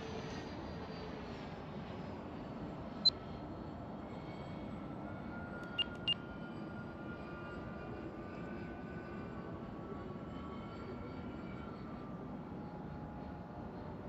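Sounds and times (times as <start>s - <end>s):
aircraft engines droning: 0.0s - 14.0s.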